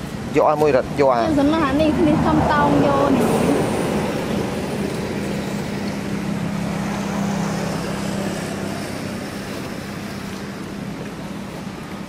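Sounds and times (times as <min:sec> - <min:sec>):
motor-like drone: 0:01.3 - 0:12.0.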